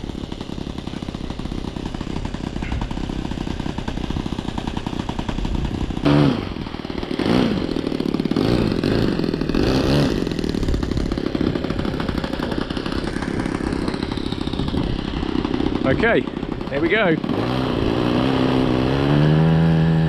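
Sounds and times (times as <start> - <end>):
engine throttle blips: 0.0 - 20.0
model aircraft engine running: 0.0 - 20.0.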